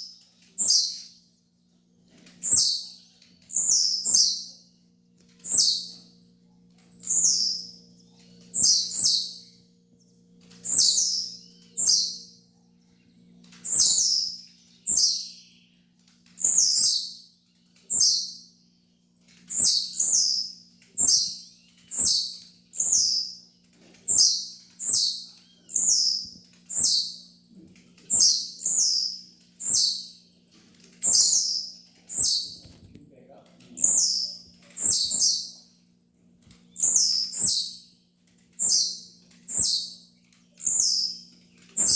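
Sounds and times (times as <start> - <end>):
bird singing high downward notes: 0.0 - 1.3, 2.4 - 6.2, 7.0 - 35.8, 36.7 - 41.9
faint low hum: 0.0 - 41.9.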